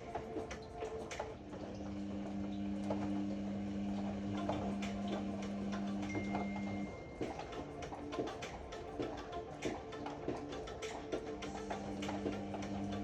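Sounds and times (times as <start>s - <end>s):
washer-dryer motor hum: 0.0s - 13.0s.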